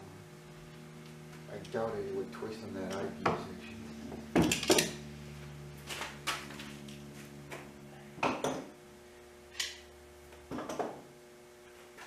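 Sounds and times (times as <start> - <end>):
low hum: 0.0 - 10.5.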